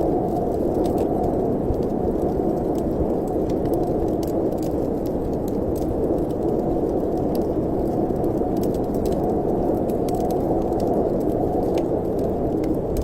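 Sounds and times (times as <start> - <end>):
fireplace fire crackling: 0.0 - 13.0
low wind noise: 0.0 - 13.0.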